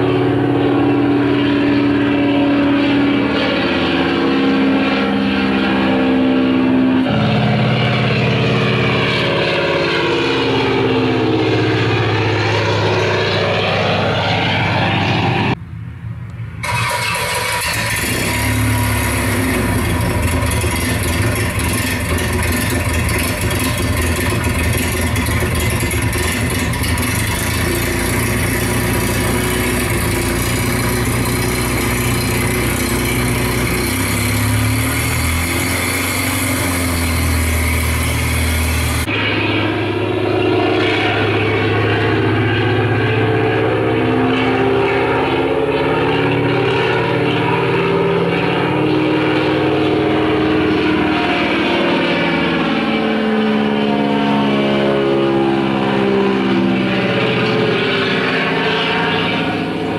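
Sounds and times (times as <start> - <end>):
aircraft piston engine running: 0.0 - 59.9.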